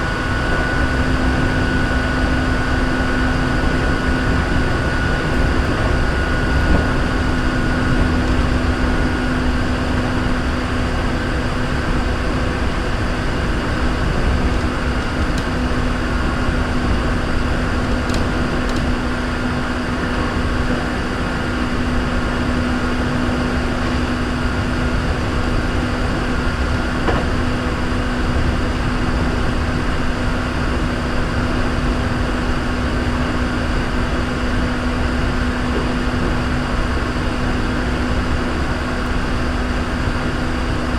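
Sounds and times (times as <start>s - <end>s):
constant hum: 0.0s - 40.9s
train wheels rumbling on rail: 0.0s - 40.9s.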